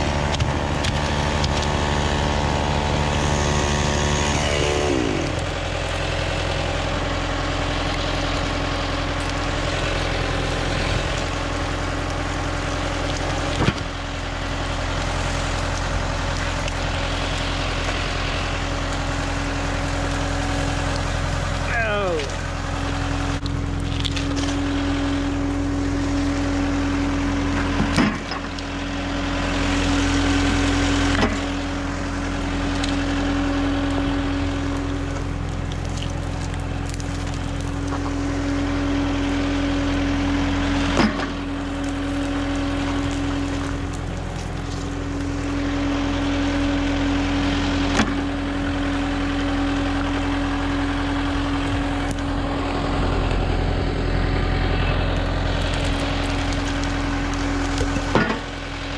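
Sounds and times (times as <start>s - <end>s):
tractor diesel engine idling: 0.0s - 58.9s.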